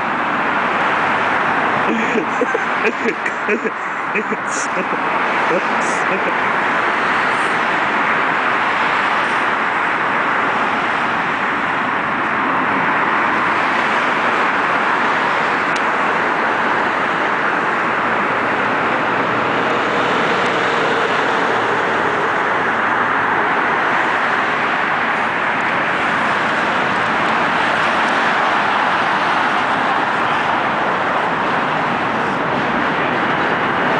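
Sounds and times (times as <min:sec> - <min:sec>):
vehicle roar: 0:00.0 - 0:33.9.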